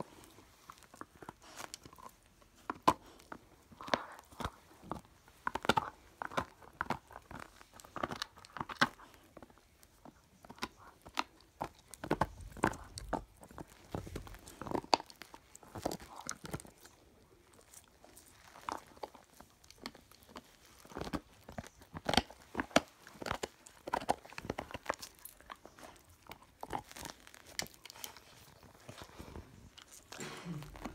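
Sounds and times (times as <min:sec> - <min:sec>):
dog gnawing a bone: 0:00.0 - 0:30.9.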